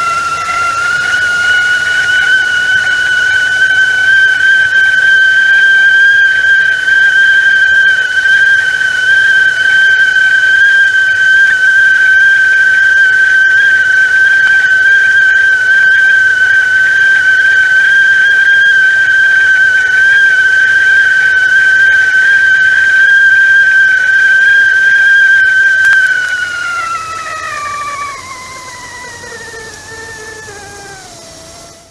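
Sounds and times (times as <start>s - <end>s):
tea kettle whistling: 0.0s - 31.9s.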